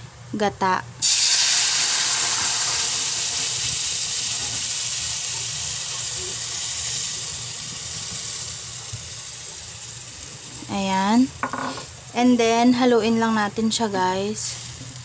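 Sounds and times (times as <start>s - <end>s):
coconut milk sizzling in wok: 1.0s - 15.0s.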